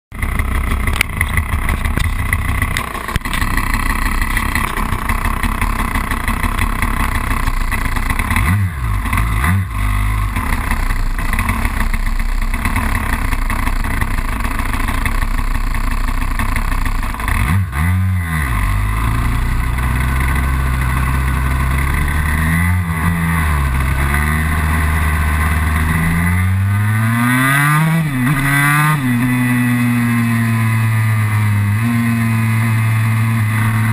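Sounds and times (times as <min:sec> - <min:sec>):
two-stroke motorcycle engine revving: 0:00.1 - 0:33.9.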